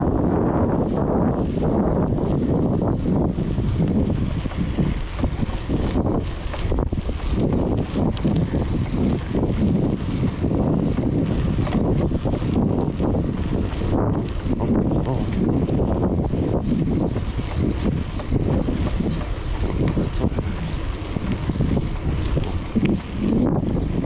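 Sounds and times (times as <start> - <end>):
vehicle drone: 0.0 - 24.0
wind buffeting microphone: 0.0 - 24.0.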